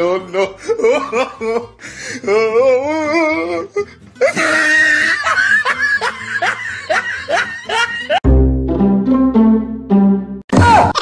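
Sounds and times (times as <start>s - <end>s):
music: 0.0s - 10.9s.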